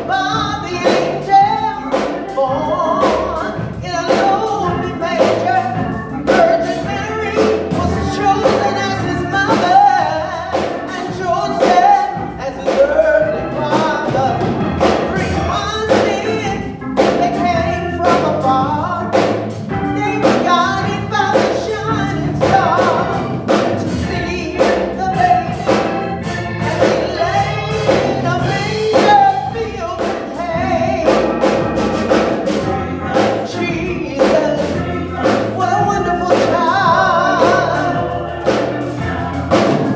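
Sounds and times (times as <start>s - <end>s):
gospel choir singing with band: 0.0s - 39.9s.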